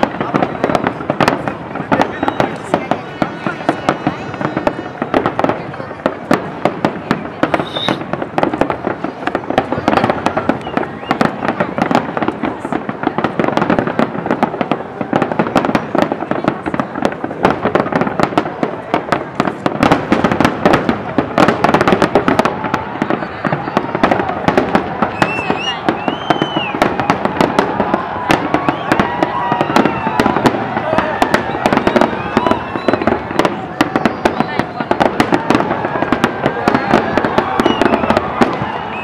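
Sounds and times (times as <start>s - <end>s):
fireworks bursts and crackles: 0.0s - 39.0s.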